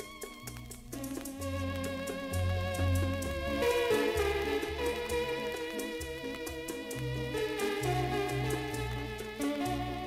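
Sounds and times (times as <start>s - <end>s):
electronic organ music: 0.0s - 10.0s.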